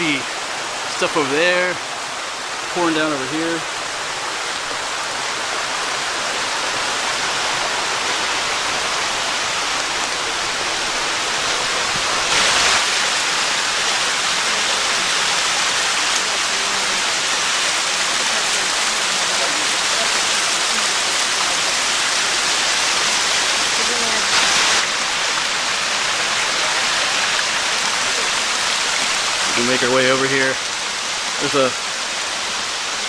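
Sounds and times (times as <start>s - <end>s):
waterfall pouring and splashing: 0.0s - 33.0s.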